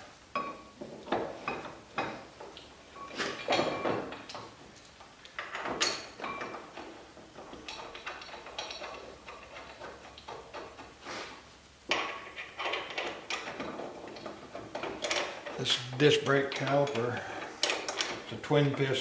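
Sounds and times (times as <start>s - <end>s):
metal parts knocking and clinking: 0.4s - 10.9s, 11.9s - 18.6s.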